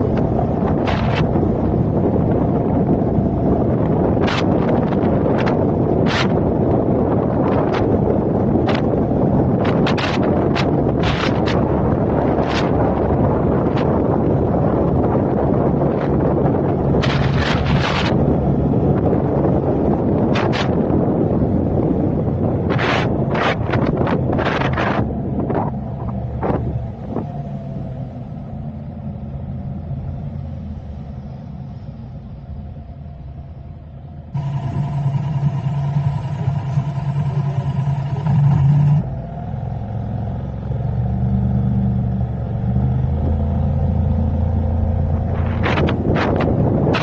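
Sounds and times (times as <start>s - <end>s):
higher-toned hum: 0.0s - 47.0s
vehicle engine and road rumble: 0.0s - 47.0s
wind buffeting microphone: 0.0s - 47.0s.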